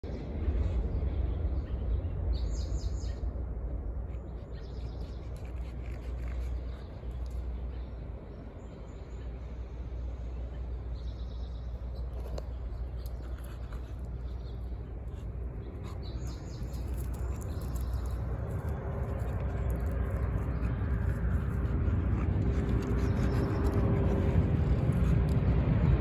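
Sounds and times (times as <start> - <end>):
low rumble: 0.0 - 26.0
birds chirping: 0.1 - 26.0.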